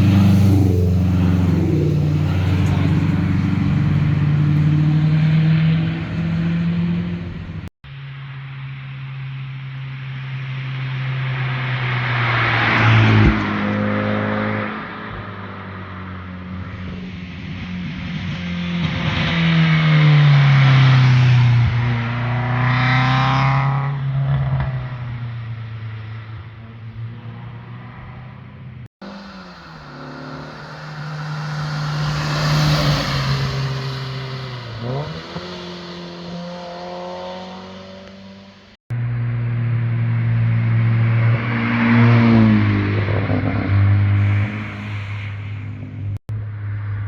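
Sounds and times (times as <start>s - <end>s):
car accelerating hard: 0.0s - 7.7s, 11.2s - 25.5s, 26.4s - 38.8s, 40.0s - 46.2s
cars driving past: 0.0s - 47.0s.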